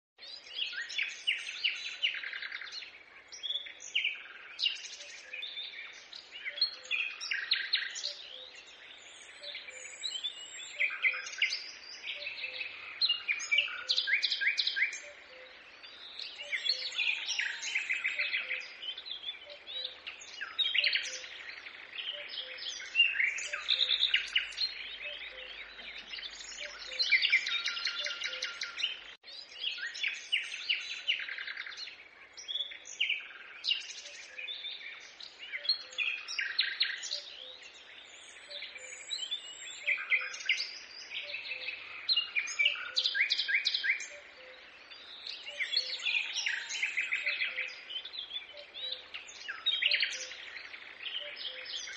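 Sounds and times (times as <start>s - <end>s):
birds singing and chirping: 0.2s - 51.9s.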